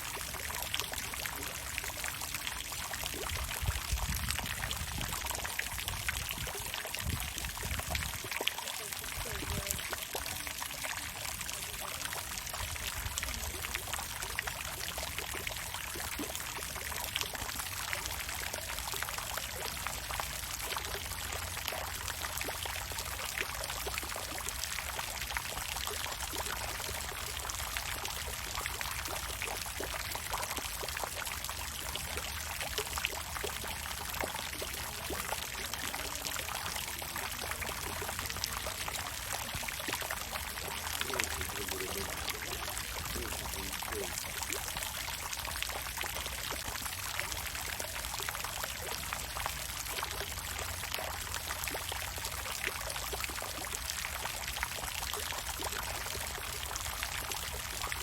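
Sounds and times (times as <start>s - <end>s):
water fountain splashing: 0.0s - 58.0s.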